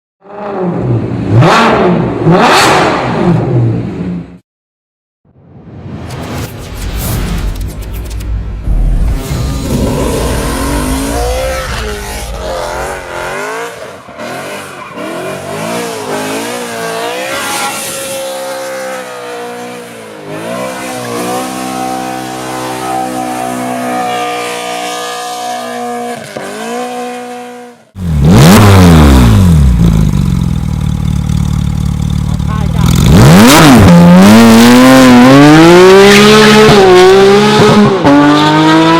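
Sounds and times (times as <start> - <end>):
car engine revving: 6.2 - 38.9.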